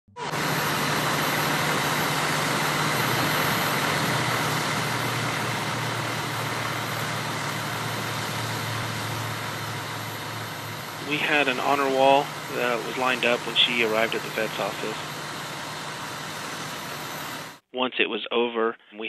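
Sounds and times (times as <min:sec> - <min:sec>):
vehicle engine idling: 0:00.3 - 0:17.6.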